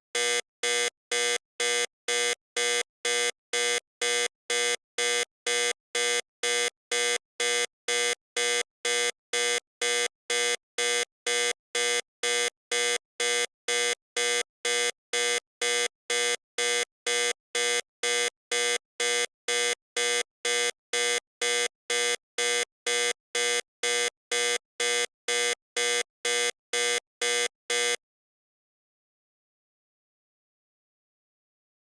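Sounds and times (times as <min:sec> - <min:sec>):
electronic warning buzzer beeping: 0:00.2 - 0:28.0.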